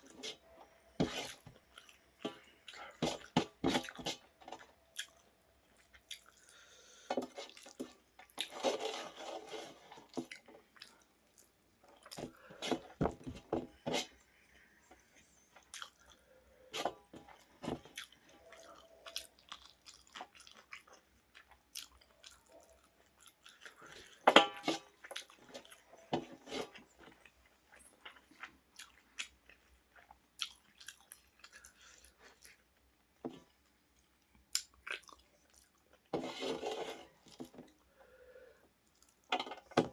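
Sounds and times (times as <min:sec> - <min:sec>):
person chewing crunchy food: 0:00.0 - 0:14.3, 0:15.3 - 0:33.6, 0:34.3 - 0:36.1.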